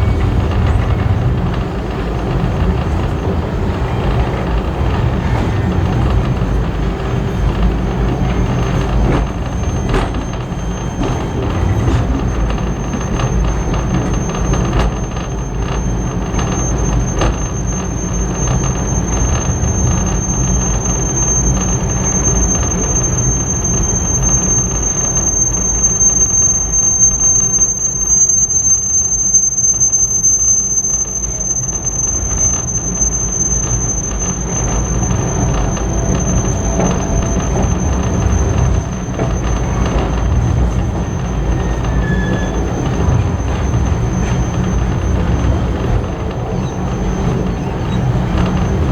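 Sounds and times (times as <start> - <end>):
train rumbling on track: 0.0 - 48.9
train wheels squealing: 0.0 - 48.9.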